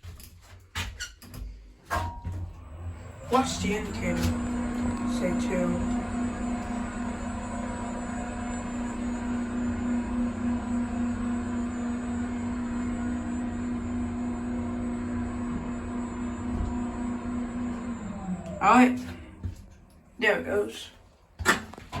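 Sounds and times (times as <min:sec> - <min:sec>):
elevator hum: 0:01.9 - 0:21.3.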